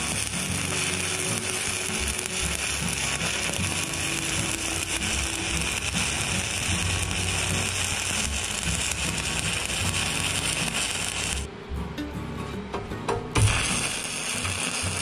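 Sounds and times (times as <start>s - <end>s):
welding arc crackling sizzle: 0.0s - 11.5s, 13.4s - 15.0s.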